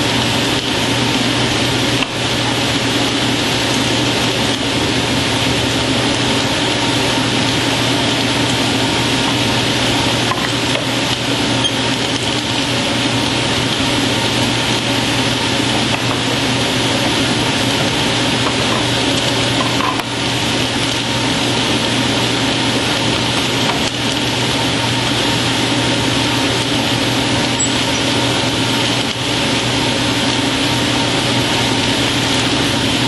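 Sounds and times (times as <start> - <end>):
table saw running: 0.0 - 33.0.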